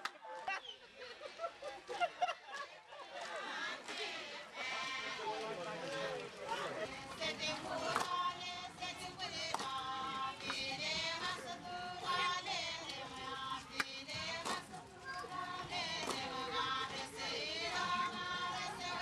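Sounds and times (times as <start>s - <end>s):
women singing together: 0.5s - 19.0s.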